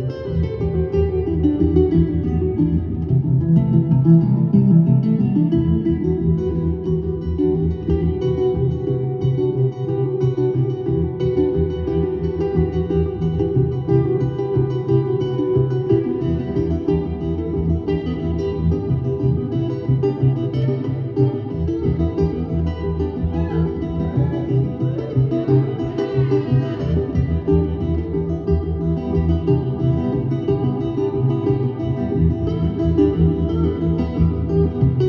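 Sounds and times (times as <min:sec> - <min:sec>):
plucked guitar strings: 0:00.0 - 0:35.0
steady low bass line: 0:00.0 - 0:35.0.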